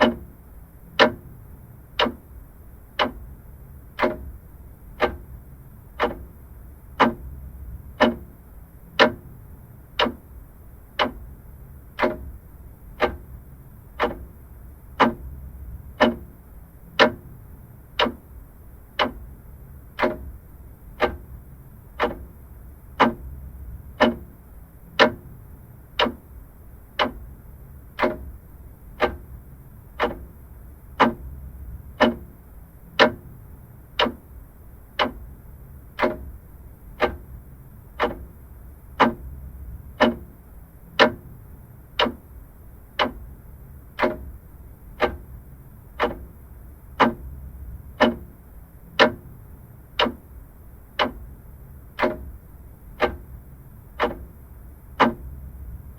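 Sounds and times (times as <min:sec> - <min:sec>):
clock ticking: 0:00.0 - 0:55.9
faint low hum: 0:00.0 - 0:55.9.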